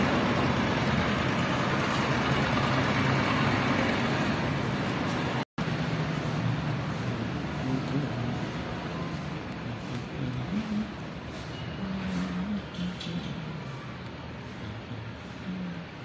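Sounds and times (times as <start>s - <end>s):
road traffic engine hum: 0.0s - 16.0s.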